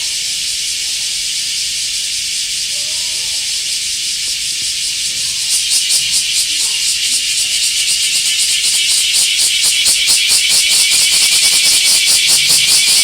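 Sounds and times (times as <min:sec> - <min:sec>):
cicada buzzing: 0:00.0 - 0:13.0.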